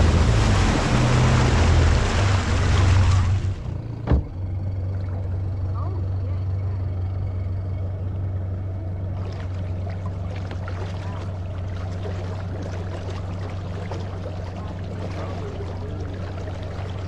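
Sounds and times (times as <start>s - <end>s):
outboard motor running: 0.0s - 17.0s
water splashing along hull: 0.0s - 17.0s.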